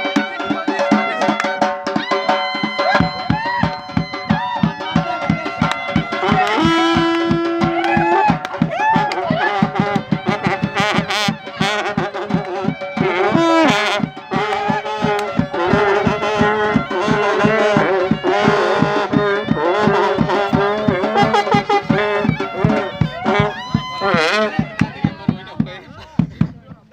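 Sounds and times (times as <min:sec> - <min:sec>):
long horns blowing: 0:00.0 - 0:25.6
wavering high melody: 0:00.0 - 0:25.6
fast drum beat: 0:00.0 - 0:26.9.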